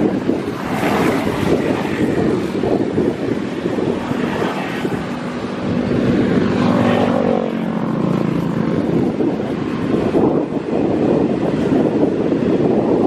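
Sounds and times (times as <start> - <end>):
distant engine drone: 0.0 - 12.0
wind buffeting microphone: 0.0 - 13.0.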